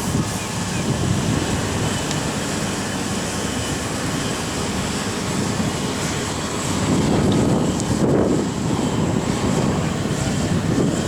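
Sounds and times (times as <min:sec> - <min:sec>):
diesel engine rumble and hiss: 0:00.0 - 0:11.0.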